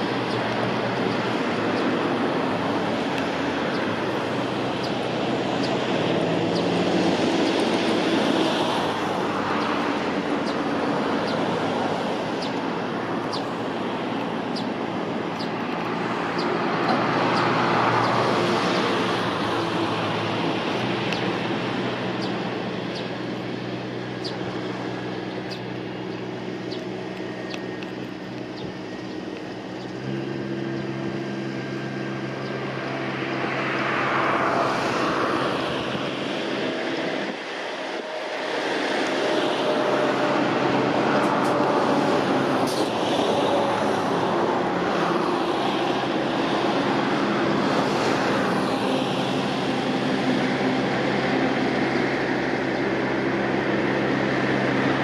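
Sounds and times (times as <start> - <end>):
cars passing on road: 0.0 - 55.0
engine running steadily: 0.0 - 55.0.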